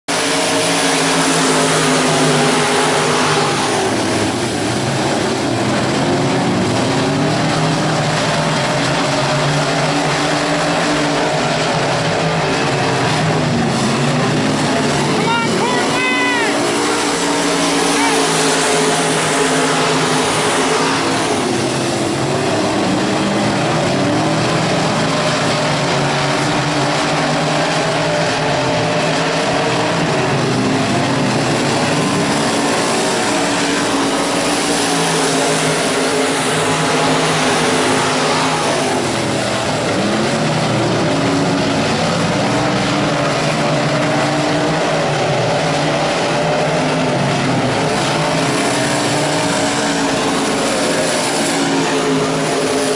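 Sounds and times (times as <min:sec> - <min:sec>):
race car engines: 0:00.0 - 0:52.9.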